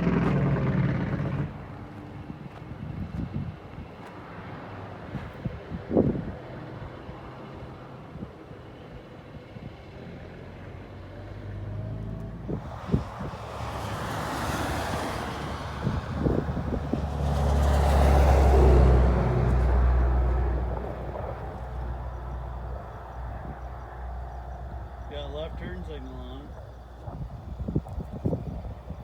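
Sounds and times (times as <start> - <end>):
truck exhaust rumbling: 0.0 - 4.0, 9.7 - 29.0.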